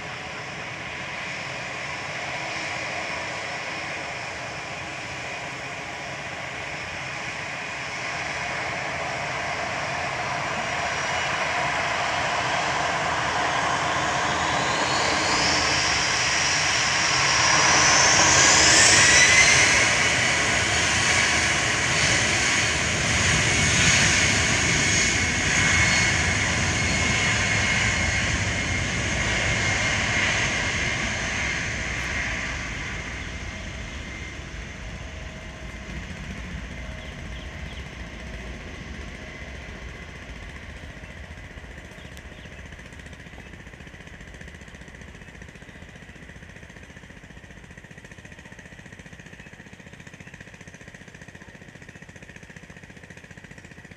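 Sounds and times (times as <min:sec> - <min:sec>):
jet engines whining: 0:00.0 - 0:46.6.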